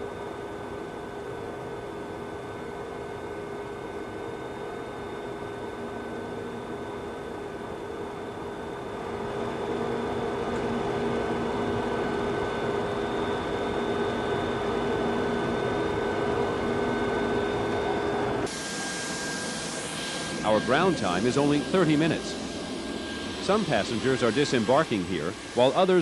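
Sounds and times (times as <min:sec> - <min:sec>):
steady whining tones: 0:04.2 - 0:26.0
cockpit air-conditioning hum: 0:05.0 - 0:26.0.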